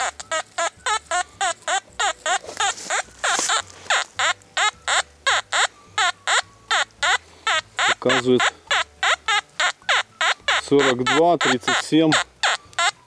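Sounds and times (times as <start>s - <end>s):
metal detector chirping beeps: 0.0s - 13.0s.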